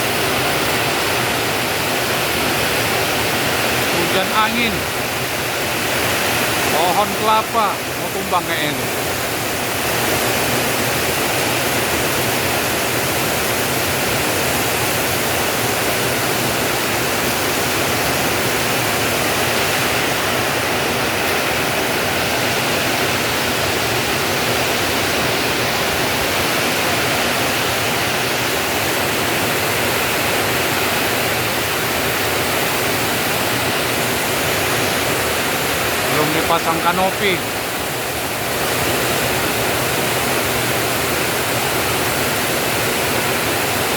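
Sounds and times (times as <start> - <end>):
heavy rain in strong wind: 0.0 - 43.9.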